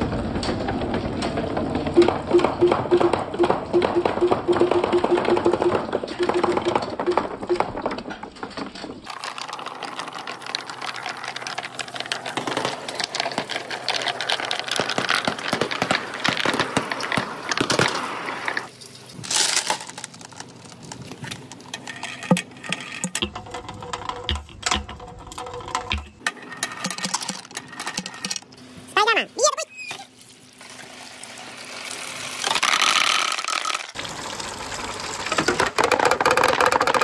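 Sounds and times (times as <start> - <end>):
balls clattering through marble run: 0.0 - 29.2, 32.3 - 37.0.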